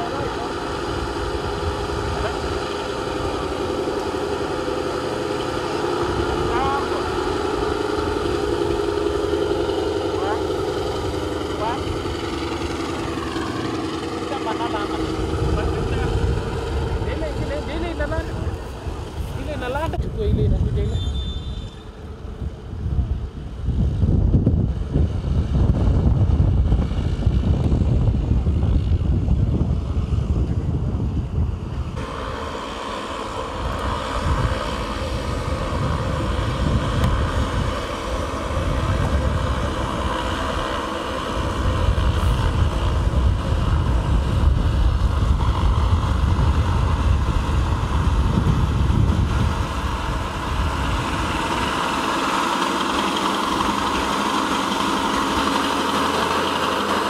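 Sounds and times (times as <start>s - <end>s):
wind rumbling on microphone: 0.0s - 32.2s, 33.1s - 57.0s
propeller plane engine: 0.0s - 57.0s.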